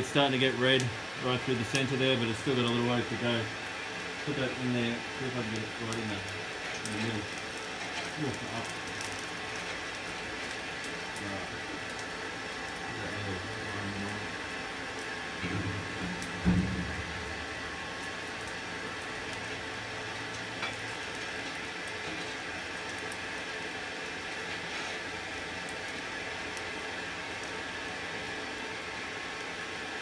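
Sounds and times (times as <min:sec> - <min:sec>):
forge fire hissing and crackling: 0:00.0 - 0:30.0.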